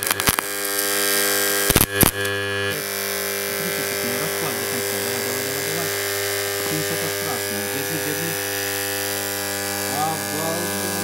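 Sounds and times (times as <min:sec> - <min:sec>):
electric arcs crackling and popping: 0:00.0 - 0:11.0
transformer humming loudly: 0:00.0 - 0:11.0.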